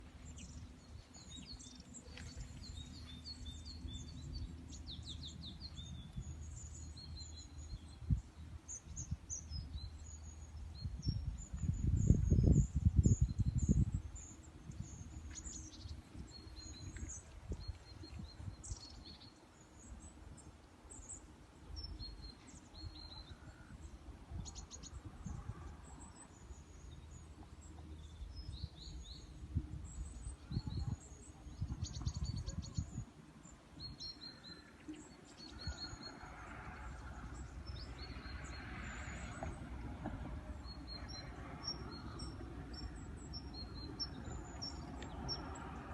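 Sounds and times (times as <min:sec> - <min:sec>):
songbirds chirping: 0:00.0 - 0:45.9.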